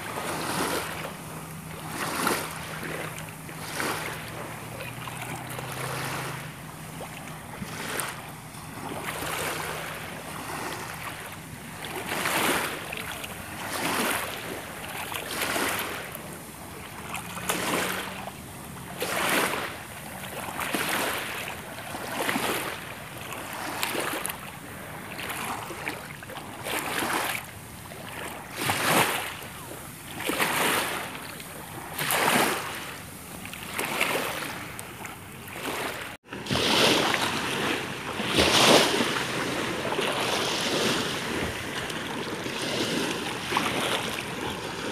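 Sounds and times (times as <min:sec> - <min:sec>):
small waves lapping: 0:00.0 - 0:44.9.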